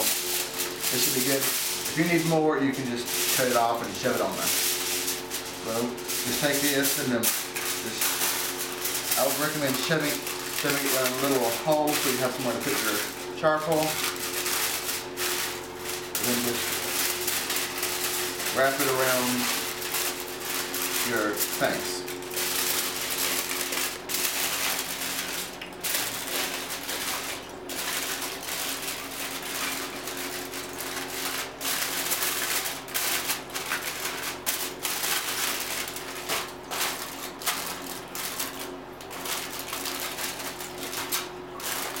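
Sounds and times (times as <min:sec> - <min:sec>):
aluminum foil crinkling: 0:00.0 - 0:42.0.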